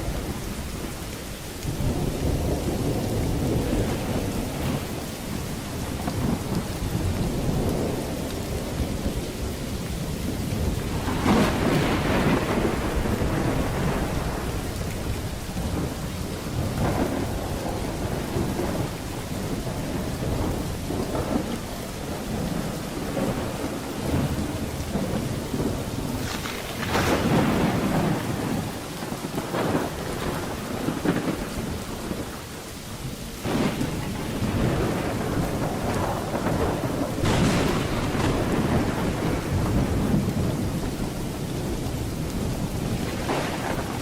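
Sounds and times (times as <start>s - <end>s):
rolling thunder: 0.0s - 44.0s
steady rain falling: 0.0s - 44.0s.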